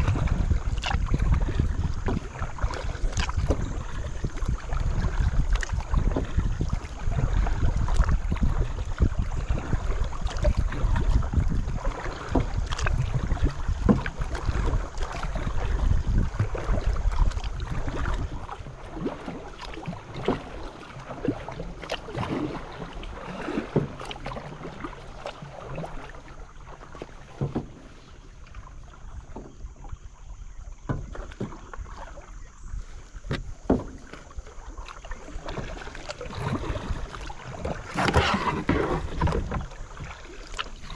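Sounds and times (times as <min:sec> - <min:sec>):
paddle splashing in water: 0:00.0 - 0:40.9.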